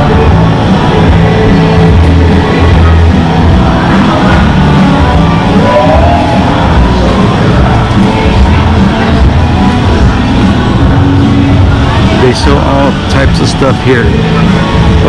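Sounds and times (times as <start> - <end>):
loud music with pulsing bass: 0.0 - 15.0.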